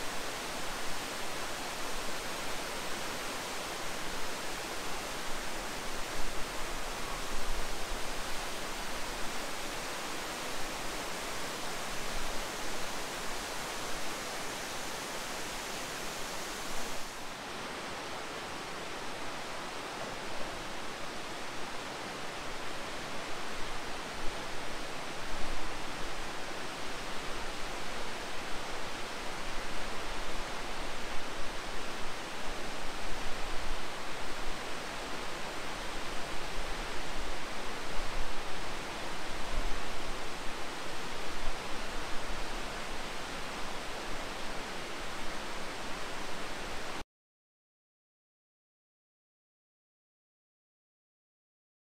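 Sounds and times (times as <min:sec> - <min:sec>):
waterfall rushing over rocks: 0:00.0 - 0:47.0.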